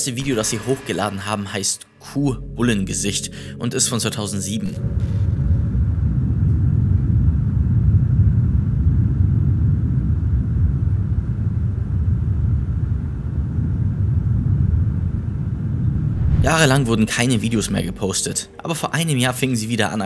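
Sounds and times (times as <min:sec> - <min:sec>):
deep rumble: 0:00.0 - 0:19.5.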